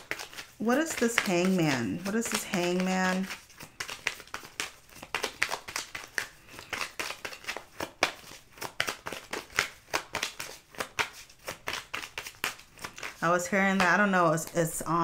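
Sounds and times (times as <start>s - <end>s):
cards shuffling: 0.0s - 15.0s.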